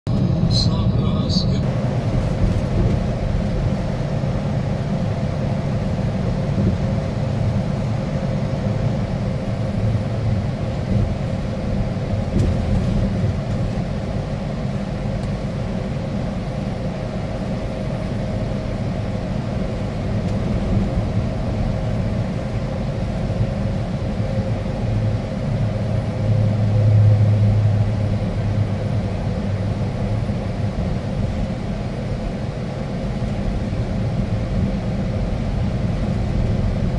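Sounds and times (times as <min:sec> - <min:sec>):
engine and road rumble: 0:00.0 - 0:36.9.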